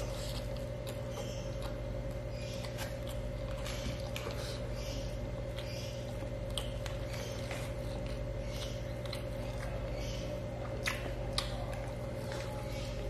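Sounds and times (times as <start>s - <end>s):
close chewing: 0.0s - 13.0s
steady low hum: 0.0s - 13.0s.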